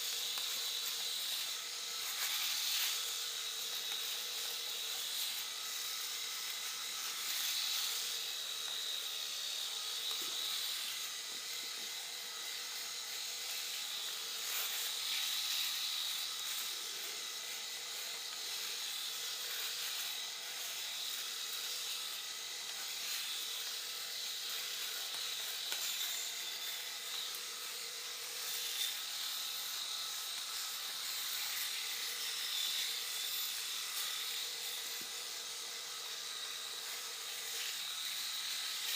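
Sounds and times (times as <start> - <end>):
electric razor motor hum: 0.0 - 38.9
razor rasping on stubble: 0.0 - 38.9.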